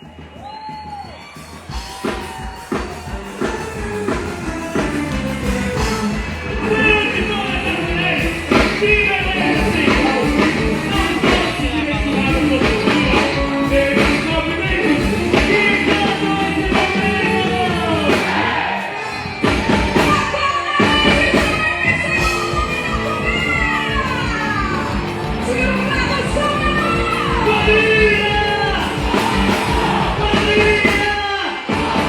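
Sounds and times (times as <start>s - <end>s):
live band playing: 0.0s - 32.0s
person singing: 1.7s - 32.0s.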